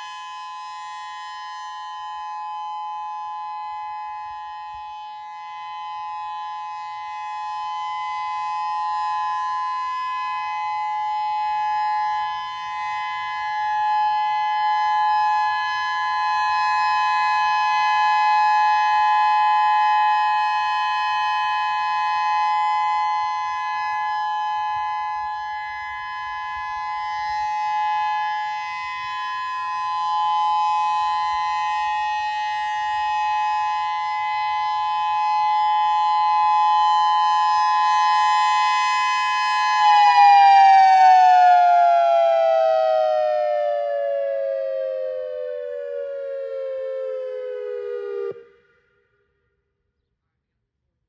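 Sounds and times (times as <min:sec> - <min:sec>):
two-pitch warning siren: 0:00.0 - 0:49.2.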